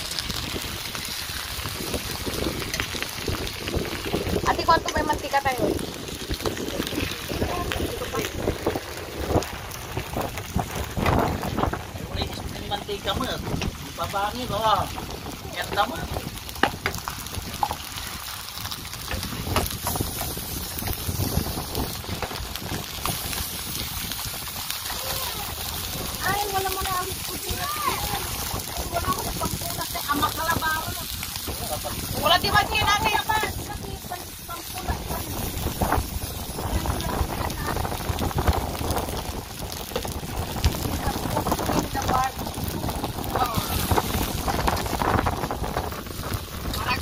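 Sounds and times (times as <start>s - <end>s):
food sizzling on hotplate: 0.0s - 47.0s
wind buffeting microphone: 0.0s - 47.0s.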